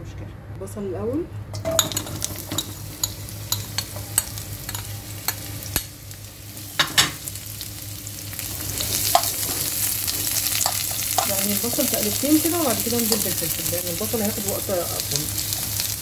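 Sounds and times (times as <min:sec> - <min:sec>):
onions sizzling in frying pan: 0:01.7 - 0:16.0.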